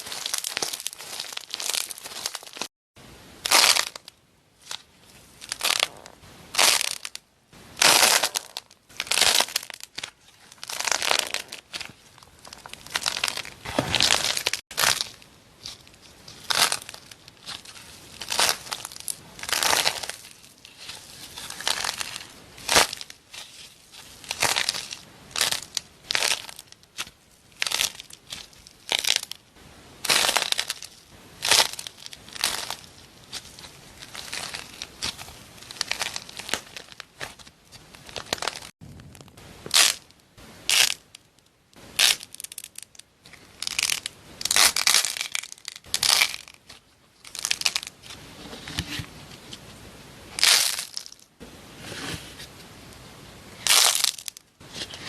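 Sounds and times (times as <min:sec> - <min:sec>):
crunchy material being crushed: 0:00.0 - 0:02.7, 0:03.4 - 0:04.8, 0:05.4 - 0:07.2, 0:07.8 - 0:41.3, 0:42.0 - 0:48.2, 0:50.4 - 0:52.2, 0:53.6 - 0:55.0.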